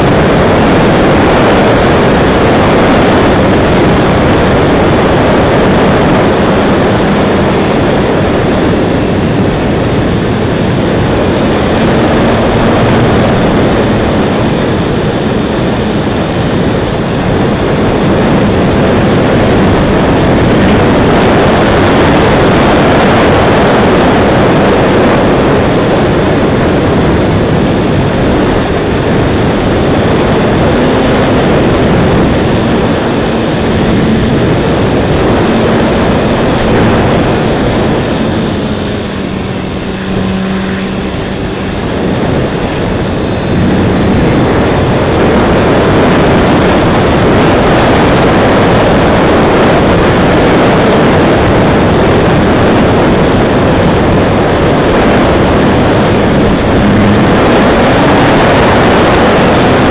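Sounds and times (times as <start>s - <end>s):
propeller and airflow rush: 0.0s - 59.9s.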